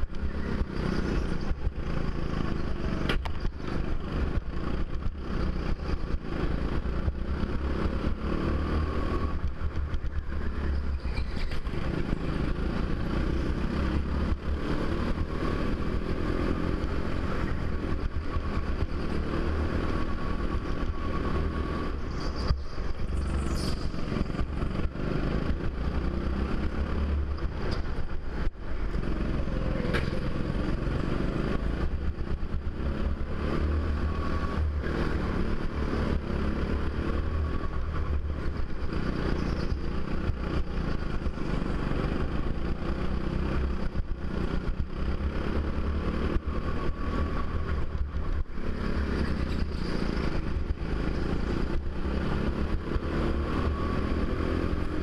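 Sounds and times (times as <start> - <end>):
go-kart engine running hard: 0.0 - 55.0.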